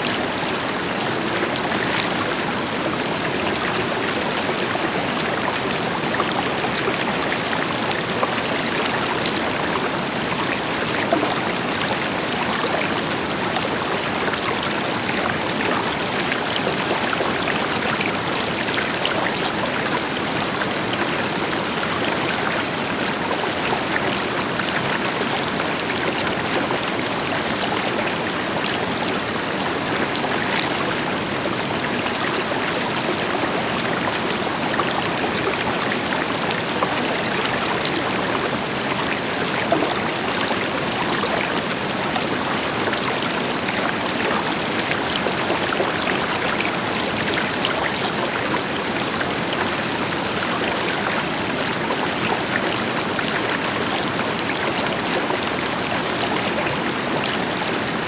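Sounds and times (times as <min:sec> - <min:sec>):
river water flowing over rocks: 0:00.0 - 0:58.0.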